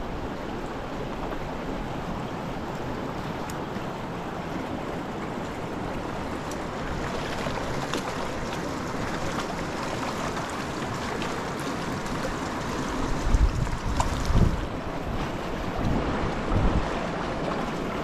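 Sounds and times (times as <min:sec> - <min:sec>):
river current rushing: 0:00.0 - 0:18.0.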